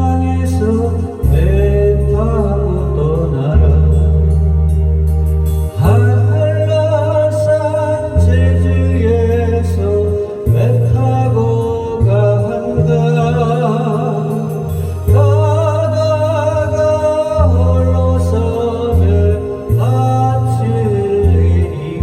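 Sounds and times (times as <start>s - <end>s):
backing track bass notes: 0.0s - 22.0s
person singing with vibrato: 0.0s - 22.0s.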